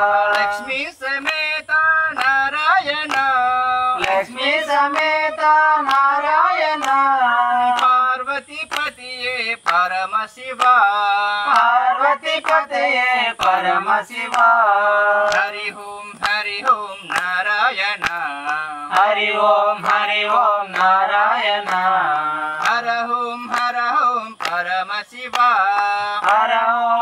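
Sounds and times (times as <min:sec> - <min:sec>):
group singing in unison: 0:00.0 - 0:27.0
hand claps: 0:00.0 - 0:27.0.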